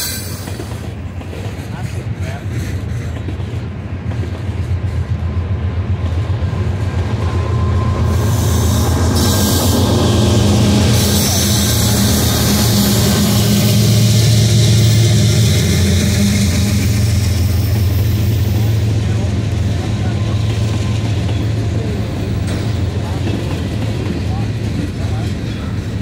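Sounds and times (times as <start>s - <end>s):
diesel locomotives droning: 0.0s - 26.0s
train wheels rolling on rail: 0.0s - 26.0s.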